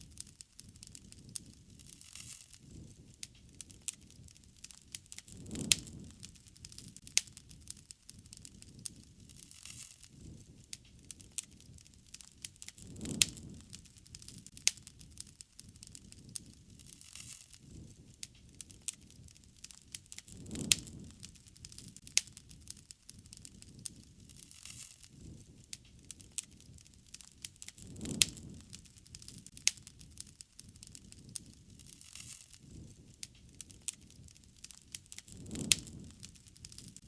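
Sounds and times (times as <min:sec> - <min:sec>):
low rush of burning: 0:00.0 - 0:37.0
sharp pops from fire: 0:00.0 - 0:37.0
wood fire crackling: 0:00.0 - 0:37.0.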